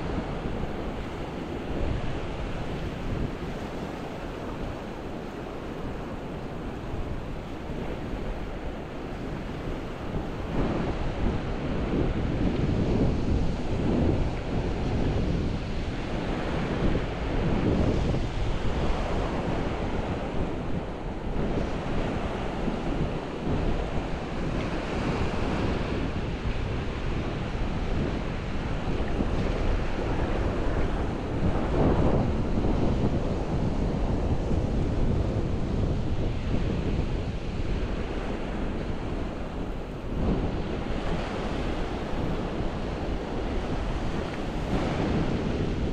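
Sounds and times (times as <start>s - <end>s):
waves breaking on sand: 0.0s - 45.9s
wind buffeting microphone: 0.0s - 45.9s.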